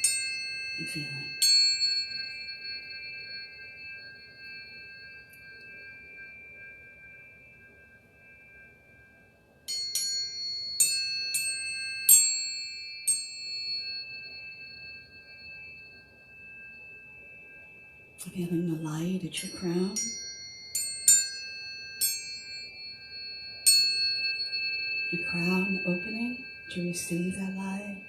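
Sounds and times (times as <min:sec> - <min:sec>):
metal chimes ringing: 0:00.0 - 0:28.0
sharp chime strikes: 0:00.0 - 0:28.0.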